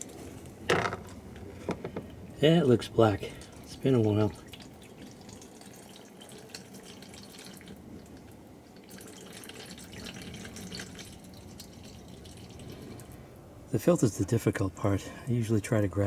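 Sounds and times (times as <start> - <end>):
oil trickling into pan: 0.0 - 13.3.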